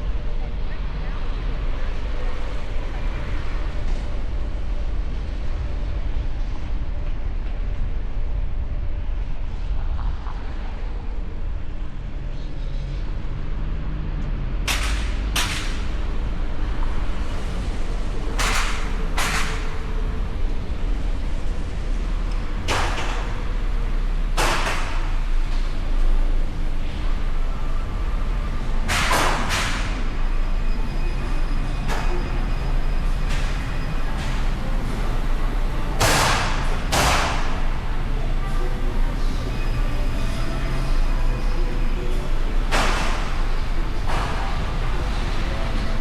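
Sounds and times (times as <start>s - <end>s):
street traffic rumble: 0.0s - 46.0s.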